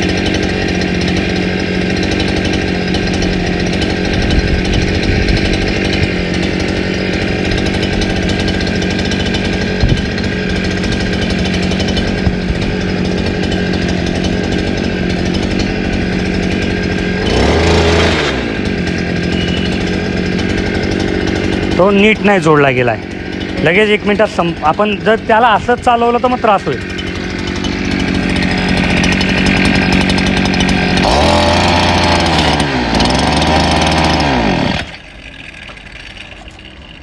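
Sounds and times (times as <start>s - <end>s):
brush cutter engine running: 0.0s - 37.0s
shaft vibration noise: 0.0s - 37.0s.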